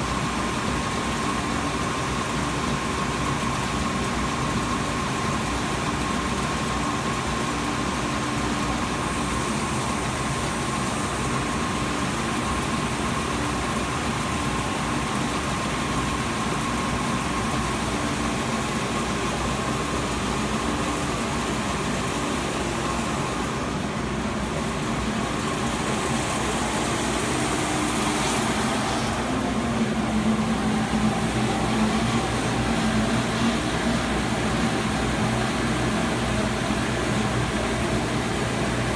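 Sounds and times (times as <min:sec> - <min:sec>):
belt sander hum and whine: 0:00.0 - 0:38.9.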